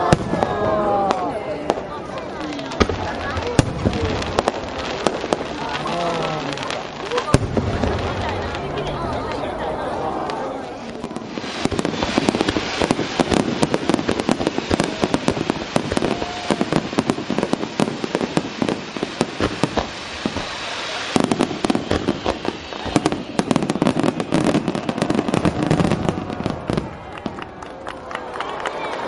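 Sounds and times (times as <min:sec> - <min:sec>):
fireworks banging: 0:00.0 - 0:27.7.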